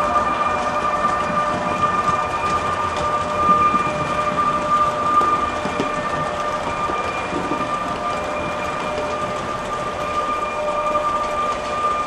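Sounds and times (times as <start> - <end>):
model train wheels on rails: 0.0 - 12.0.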